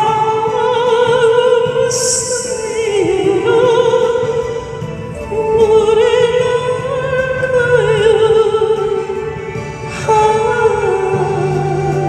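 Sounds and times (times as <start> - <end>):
acoustic guitar: 0.0 - 12.0
woman singing a slow ballad: 0.0 - 12.0.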